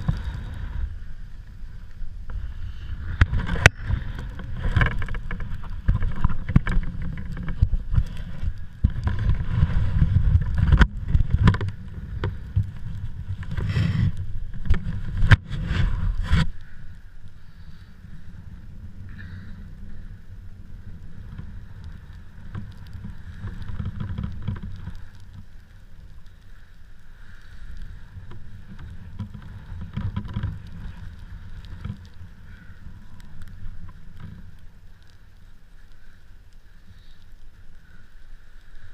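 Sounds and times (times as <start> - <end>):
gusty wind buffeting microphone: 0.0 - 36.0.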